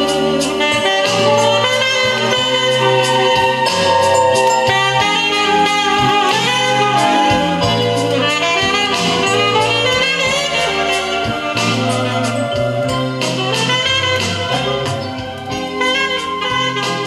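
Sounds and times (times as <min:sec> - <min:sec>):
jazz band with saxophone: 0:00.0 - 0:17.0.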